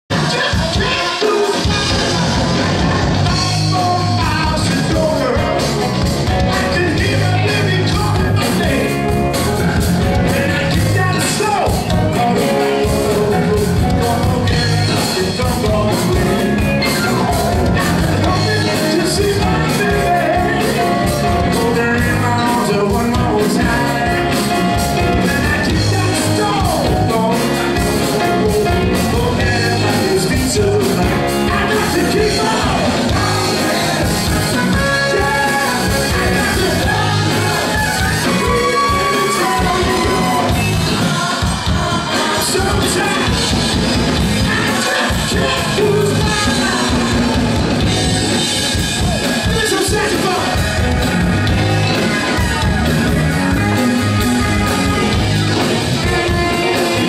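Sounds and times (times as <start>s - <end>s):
person singing: 0.1s - 50.6s, 51.4s - 57.0s
live funk band playing: 0.1s - 57.0s.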